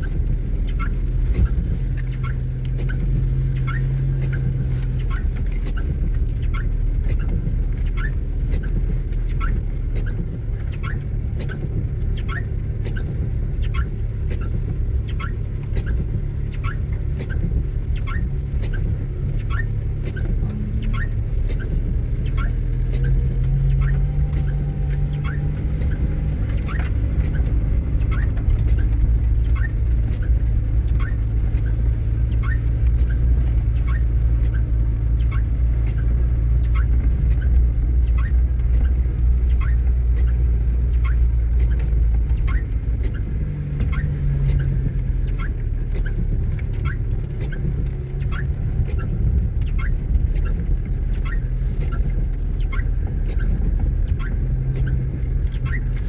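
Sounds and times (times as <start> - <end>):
car engine rumble: 0.0 - 56.0
road noise: 0.0 - 56.0
short high squeak: 0.0 - 56.0.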